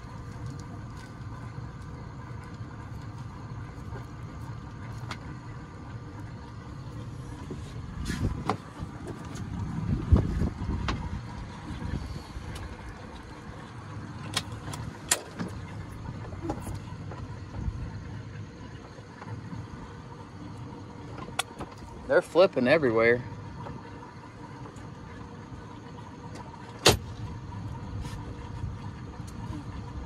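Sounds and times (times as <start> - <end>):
boat motor idling: 0.0 - 30.0.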